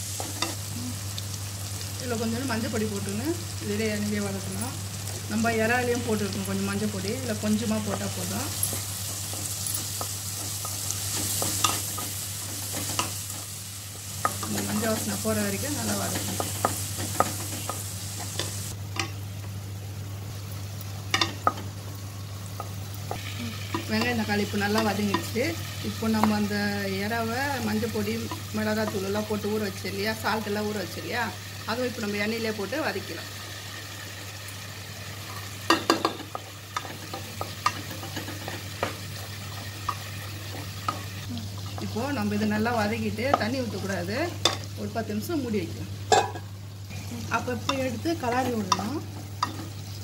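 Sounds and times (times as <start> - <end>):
vegetables sizzling in oil: 0.0 - 50.0.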